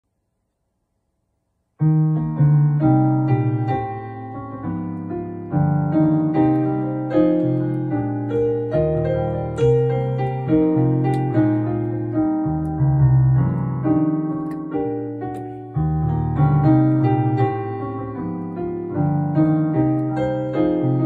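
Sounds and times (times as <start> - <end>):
keyboard piano sustained chords: 1.8 - 21.0.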